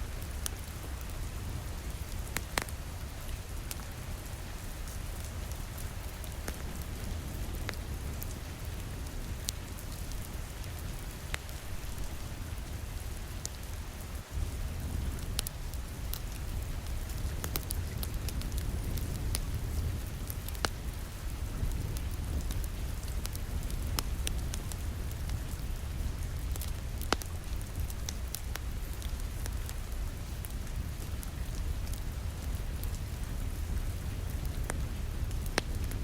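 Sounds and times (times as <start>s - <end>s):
wood fire crackling and popping: 0.0s - 4.0s, 4.7s - 13.8s, 14.4s - 36.0s.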